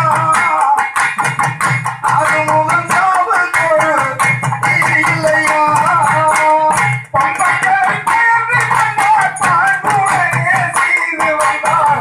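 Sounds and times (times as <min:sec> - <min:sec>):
man singing into microphone: 0:00.0 - 0:01.0, 0:02.0 - 0:12.0
drums beating fast rhythm: 0:00.0 - 0:12.0.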